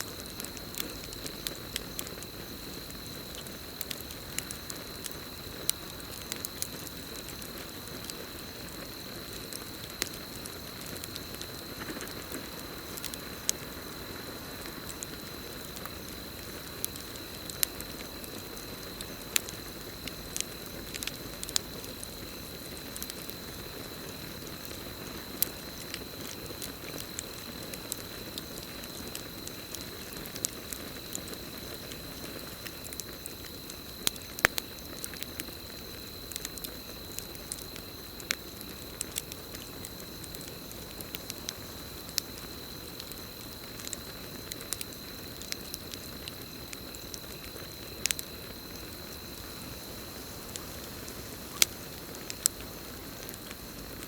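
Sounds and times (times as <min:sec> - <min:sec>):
campfire crackling and popping: 0:00.0 - 0:54.0
cricket trill: 0:00.0 - 0:54.0.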